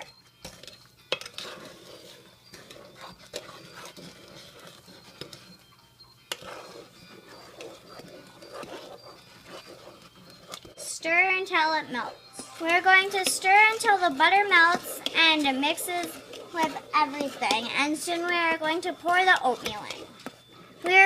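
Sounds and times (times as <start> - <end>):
wooden spoon scraping pan: 0.0 - 5.7, 6.3 - 21.0.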